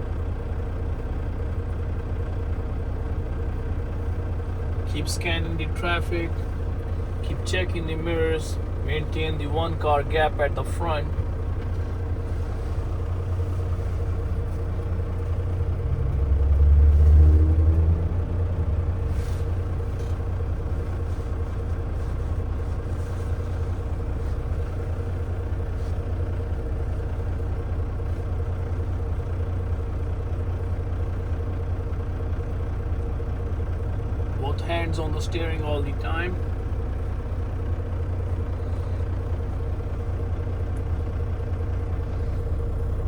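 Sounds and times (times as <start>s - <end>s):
road noise hum: 0.0s - 43.0s
truck diesel engine drone: 0.0s - 43.0s.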